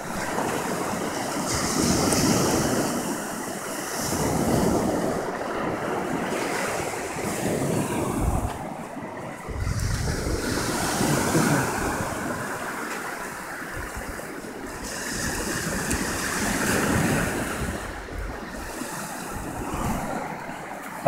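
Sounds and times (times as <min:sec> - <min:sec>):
ocean surf washing up beach: 0:00.0 - 0:21.0
wind rumbling on microphone: 0:00.0 - 0:21.0.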